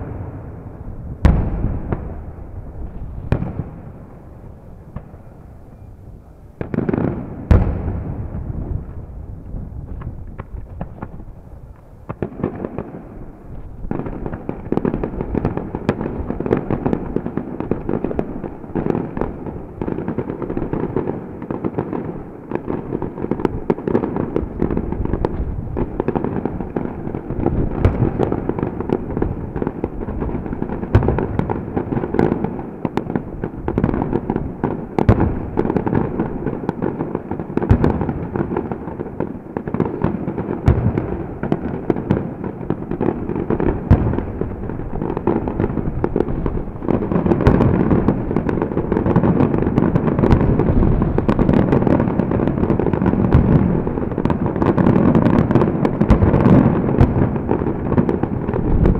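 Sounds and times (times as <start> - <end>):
loud firework booms: 0.0 - 5.9, 6.5 - 58.9
dense firework crackle: 0.0 - 58.9.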